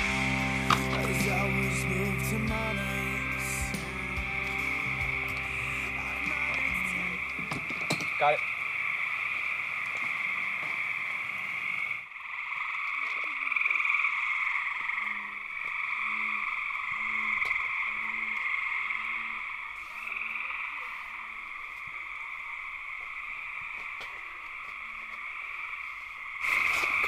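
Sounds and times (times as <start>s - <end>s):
high-pitched frog chorus: 0.0s - 27.0s
low frog croaks: 4.2s - 27.0s.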